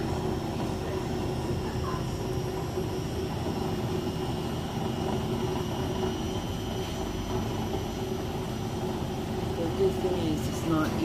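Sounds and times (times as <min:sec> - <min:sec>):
spinning drum rumble: 0:00.0 - 0:11.0
washing machine motor whine: 0:00.0 - 0:11.0.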